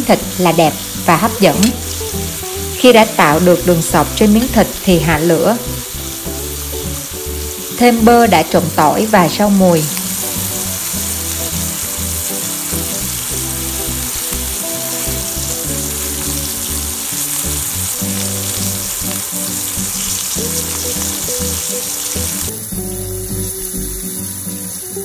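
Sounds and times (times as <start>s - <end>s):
background music: 0.0s - 25.0s
steak sizzling in grill pan: 0.0s - 25.0s.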